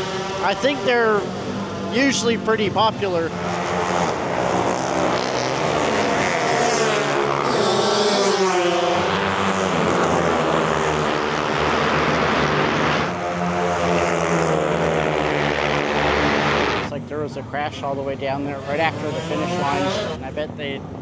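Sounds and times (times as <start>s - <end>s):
motorbike passing by: 0.0s - 16.9s
motorbike engines racing: 0.0s - 21.0s.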